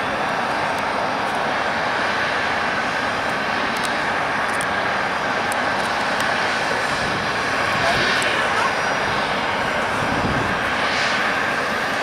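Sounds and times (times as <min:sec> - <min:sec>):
jet engines roaring with whine: 0:00.0 - 0:12.0.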